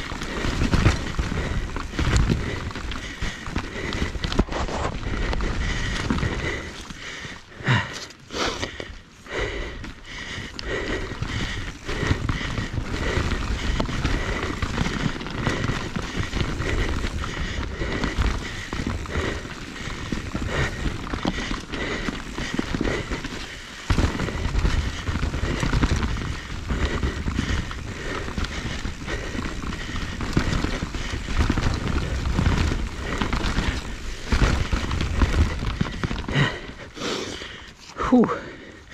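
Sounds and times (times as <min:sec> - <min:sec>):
tyre and wind noise: 0:00.0 - 0:38.2
bike knocking and rattling: 0:00.0 - 0:38.9.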